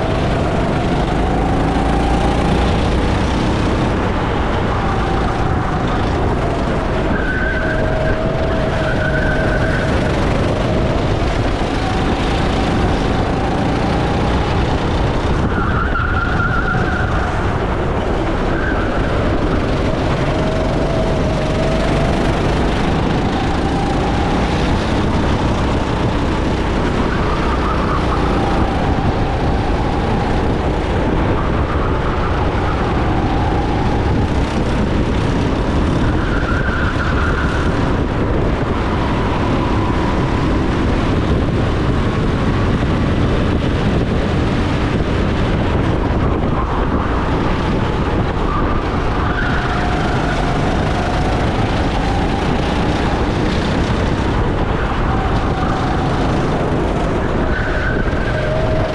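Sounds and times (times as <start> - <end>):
go-kart engine racing: 0.0 - 58.9
heavy rush of noise: 0.0 - 58.9.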